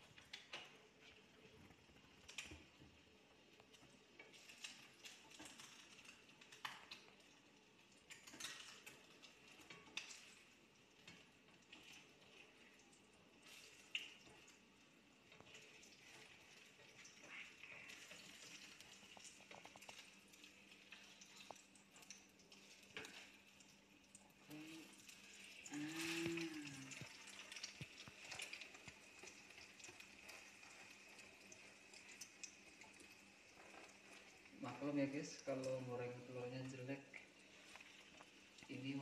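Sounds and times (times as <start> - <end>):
eggs sizzling in oil: 0.0 - 39.0.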